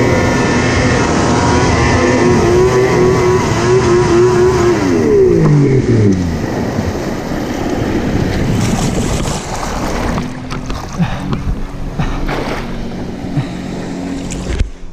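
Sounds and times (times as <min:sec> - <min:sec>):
sharp splashes: 0:00.0 - 0:14.5
lake water splashing: 0:00.0 - 0:14.8
wind buffeting microphone: 0:00.0 - 0:14.8
faint engine hum: 0:00.0 - 0:14.9.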